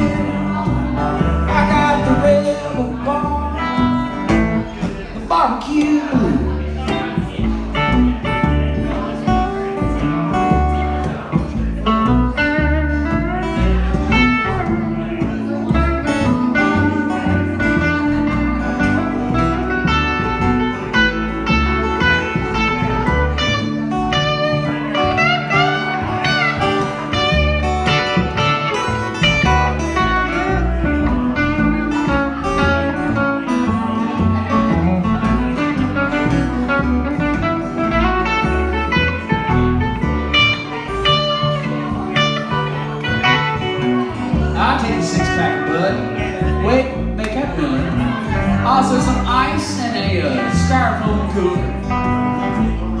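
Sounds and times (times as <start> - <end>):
upright bass line: 0.0 - 53.0
electric guitar solo: 6.2 - 53.0.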